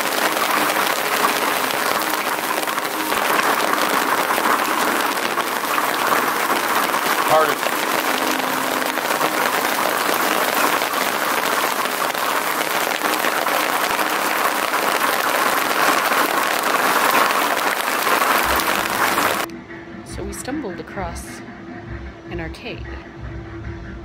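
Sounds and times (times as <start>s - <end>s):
rain and hail on concrete: 0.0s - 19.5s.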